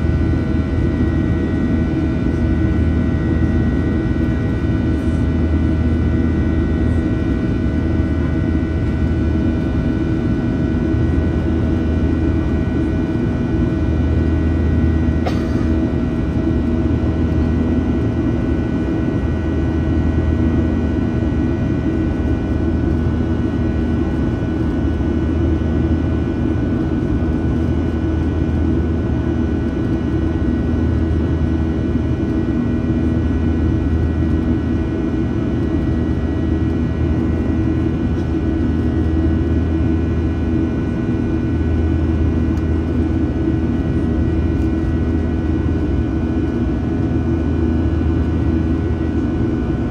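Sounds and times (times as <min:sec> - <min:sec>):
jet engine cabin drone: 0:00.0 - 0:49.9.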